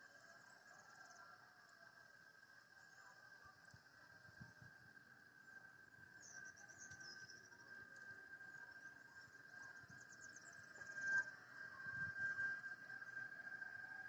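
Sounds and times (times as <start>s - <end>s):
faint high-pitched tone: 0.0s - 14.0s.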